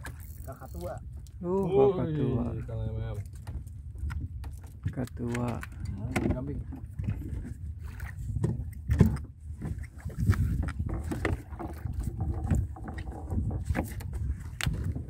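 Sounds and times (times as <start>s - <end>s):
boat engine low rumble: 0.0s - 15.0s
water sloshing against hull: 0.0s - 15.0s.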